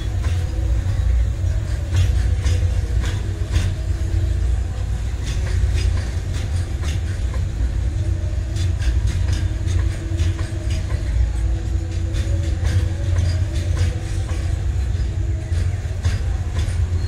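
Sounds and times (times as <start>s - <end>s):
freight train rumbling past: 0.0s - 17.0s
wheels clacking over rail joints: 0.0s - 17.0s.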